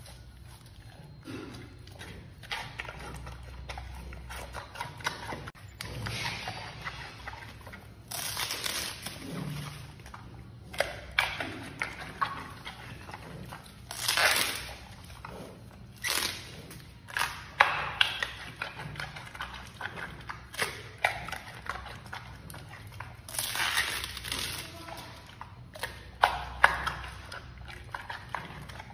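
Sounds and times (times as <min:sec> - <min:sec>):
panda chewing bamboo: 0:00.0 - 0:28.9.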